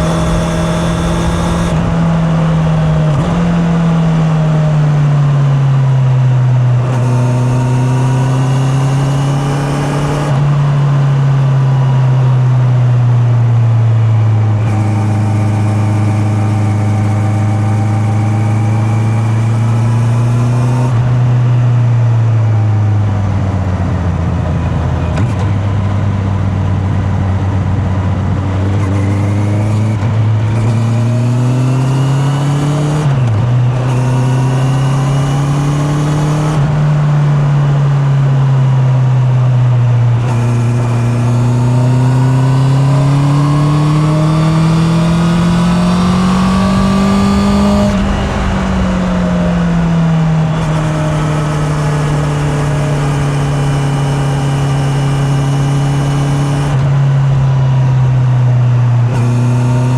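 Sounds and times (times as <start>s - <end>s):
motorcycle engine changing gears: 0.0s - 10.9s, 14.0s - 37.7s, 39.0s - 59.9s.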